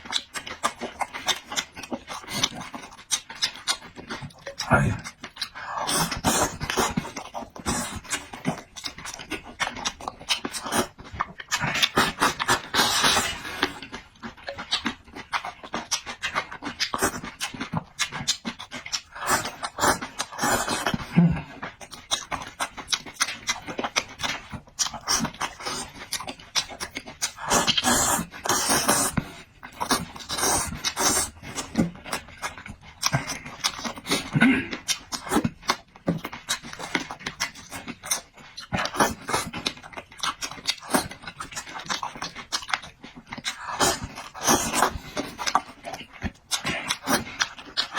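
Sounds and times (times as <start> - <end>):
wet chewing and smacking: 0.0 - 47.9.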